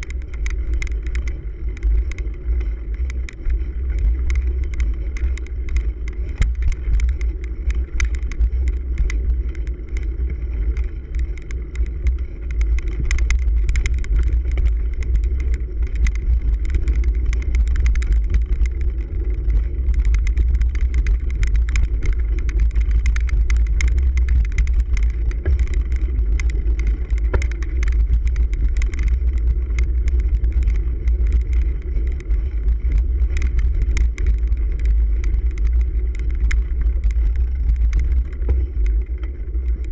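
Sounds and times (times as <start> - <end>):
bike rattles and clicks: 0.0 - 39.9
wind rumble on microphone: 0.0 - 39.9.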